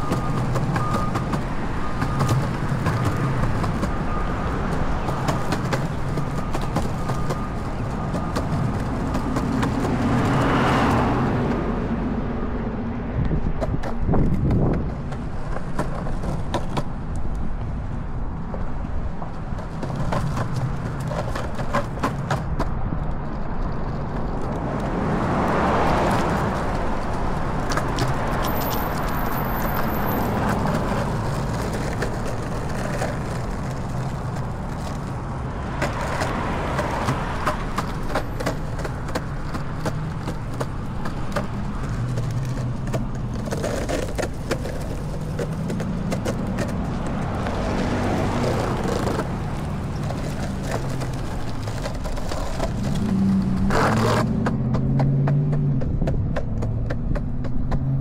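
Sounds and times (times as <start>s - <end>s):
wheels clicking over seams: 0.0s - 11.0s, 19.3s - 58.0s
skateboard wheels rumbling on concrete: 0.0s - 58.0s.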